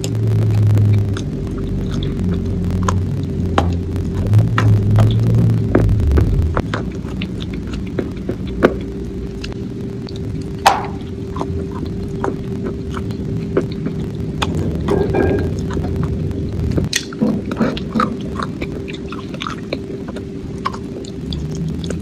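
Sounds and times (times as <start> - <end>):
low rumble: 0.0 - 22.0
person chewing food: 0.0 - 22.0
steady low hum: 0.0 - 22.0.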